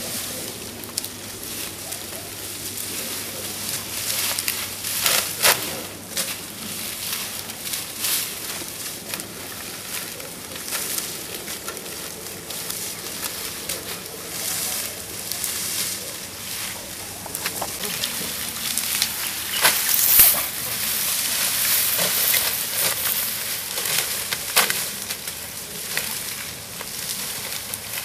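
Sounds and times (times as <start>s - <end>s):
sugarcane stalks rustling and cracking: 0.0s - 28.0s.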